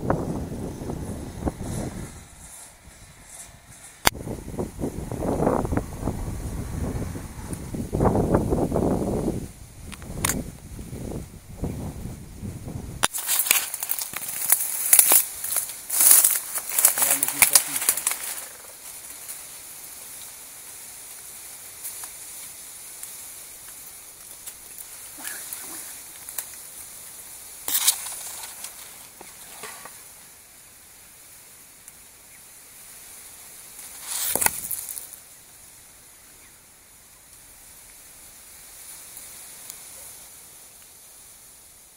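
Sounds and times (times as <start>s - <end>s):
foliage rustling against microphone: 0.0s - 41.9s
steady high hiss: 0.0s - 41.9s.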